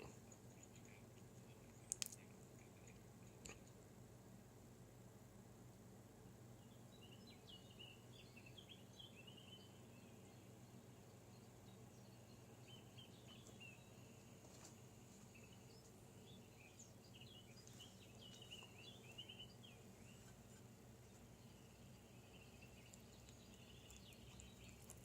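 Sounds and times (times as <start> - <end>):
small birds chirping: 0.0 - 3.9, 5.6 - 25.0.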